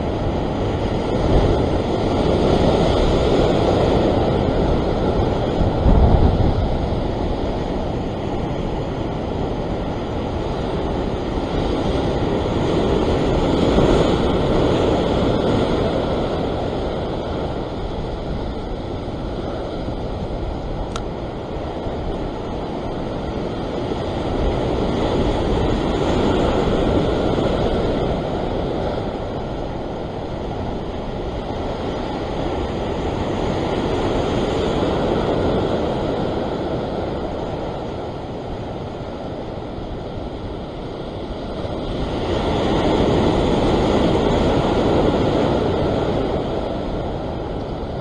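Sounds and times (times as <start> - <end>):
rough sea surging over rocks: 0.0 - 48.0
wind rumbling on microphone: 0.0 - 48.0.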